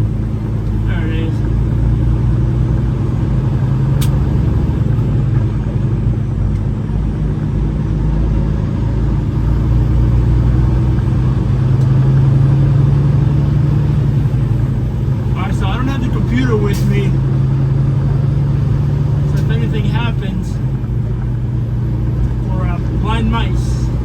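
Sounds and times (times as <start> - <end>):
diesel truck engine droning: 0.0 - 24.0.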